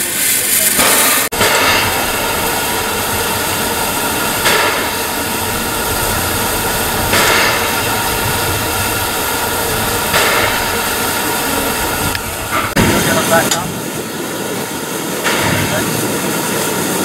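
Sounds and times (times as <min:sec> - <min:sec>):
steam hissing from boiler: 0:00.0 - 0:17.0.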